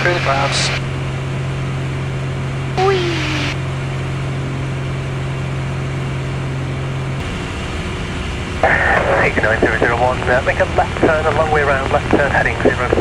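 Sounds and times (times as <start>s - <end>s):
aircraft engine and propeller drone: 0.0s - 13.0s
steady low hum: 0.0s - 13.0s.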